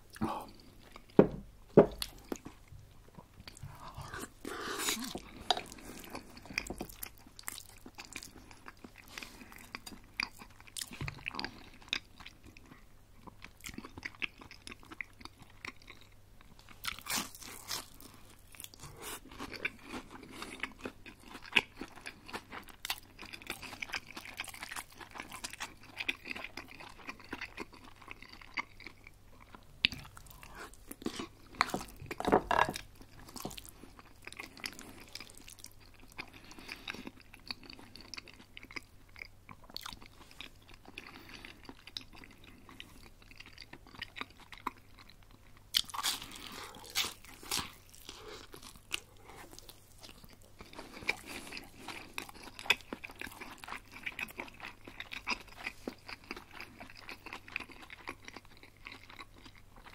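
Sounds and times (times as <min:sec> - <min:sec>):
chewing crispy food: 0:01.9 - 0:59.9.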